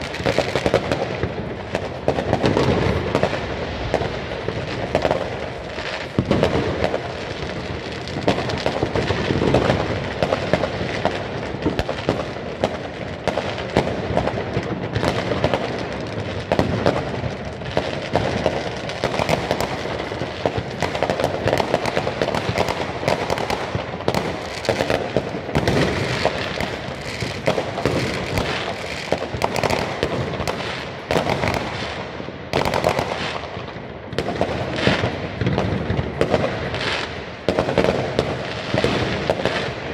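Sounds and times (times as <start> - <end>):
fireworks and firecrackers bursting: 0.0 - 39.9.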